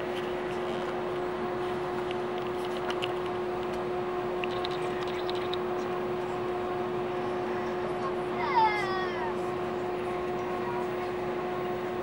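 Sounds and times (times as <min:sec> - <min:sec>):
jet engines idling hum: 0:00.0 - 0:12.0.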